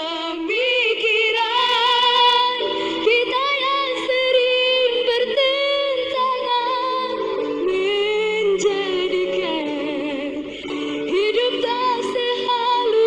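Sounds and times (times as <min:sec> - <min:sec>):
song with high singing voice: 0:00.0 - 0:13.0.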